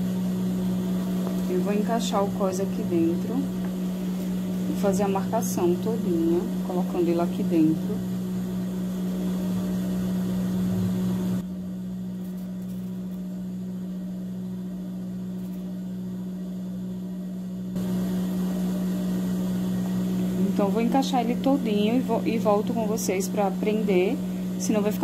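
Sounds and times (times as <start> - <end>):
electric motor hum: 0.0 - 25.0.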